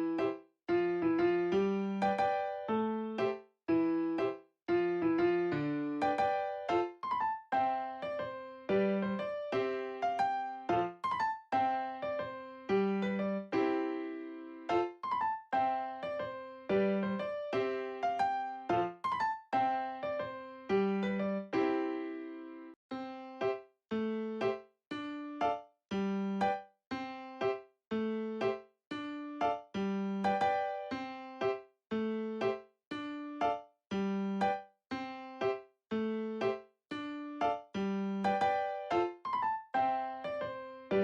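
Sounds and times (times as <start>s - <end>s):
piano-like keyboard tune: 0.0s - 41.0s.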